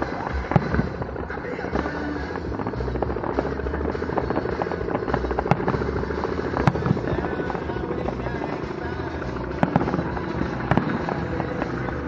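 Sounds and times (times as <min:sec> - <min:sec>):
fireworks crackling: 0:00.0 - 0:12.0
low rumble: 0:00.0 - 0:12.0
sharp firework bangs: 0:00.0 - 0:12.0.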